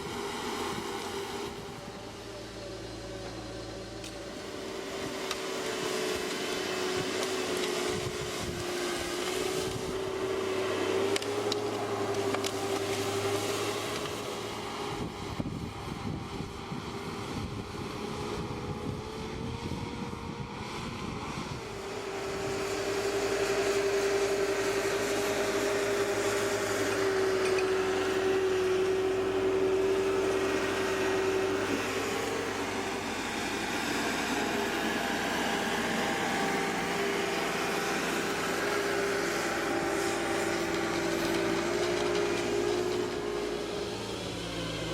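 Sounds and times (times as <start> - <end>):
machine motor humming whine: 0.0 - 44.9.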